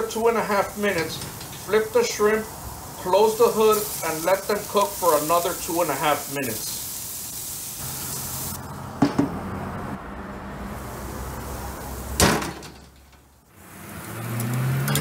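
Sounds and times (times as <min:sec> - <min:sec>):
shrimp sizzling on grill: 0:00.0 - 0:09.0, 0:10.5 - 0:12.2, 0:13.5 - 0:15.0.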